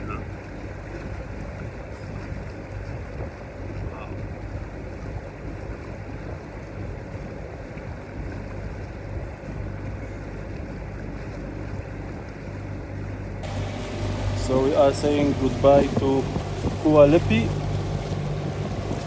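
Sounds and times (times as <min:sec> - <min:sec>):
boat engines humming: 0:00.0 - 0:19.0
wind and water rushing: 0:00.0 - 0:19.0.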